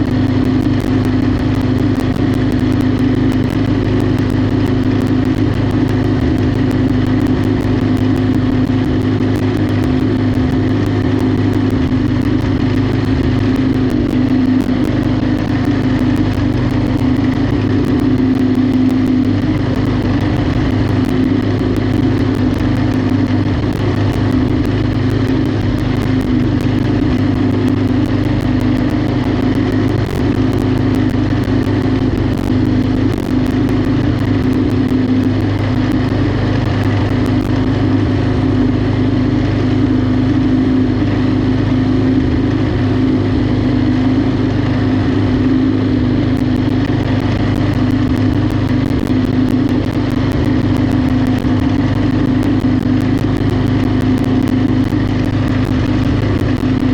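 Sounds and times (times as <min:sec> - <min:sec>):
lawnmower engine droning: 0:00.0 - 0:56.9.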